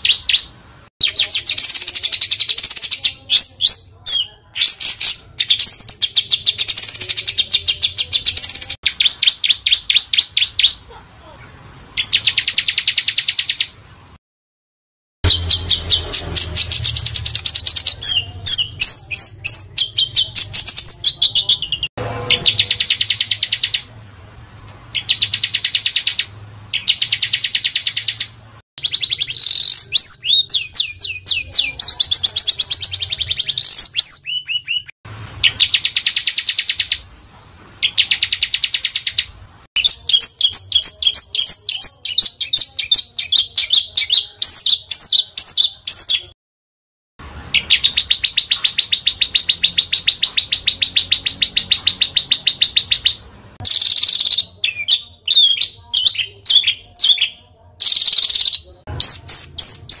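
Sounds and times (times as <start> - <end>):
songbirds singing trills: 0.0 - 13.8, 15.3 - 23.9, 24.9 - 37.1, 37.8 - 46.4, 47.5 - 60.0.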